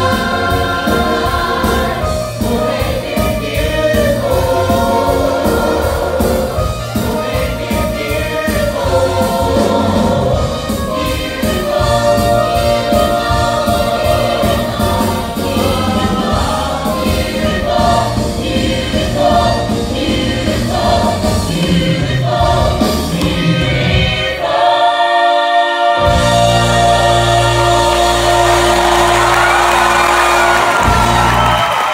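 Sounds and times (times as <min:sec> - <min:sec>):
pit band playing: 0:00.0 - 0:31.9.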